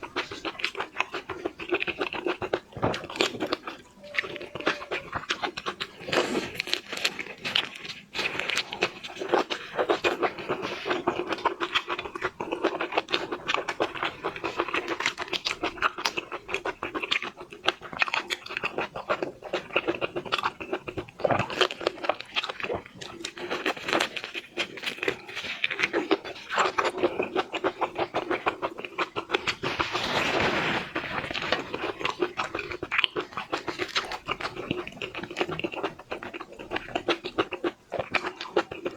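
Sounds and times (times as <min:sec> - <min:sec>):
chewing and biting: 0:00.0 - 0:38.9.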